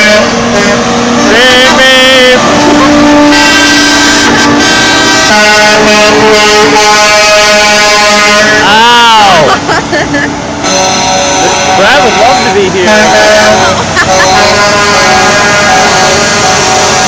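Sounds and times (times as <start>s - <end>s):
truck horns sounding: 0.0s - 17.0s.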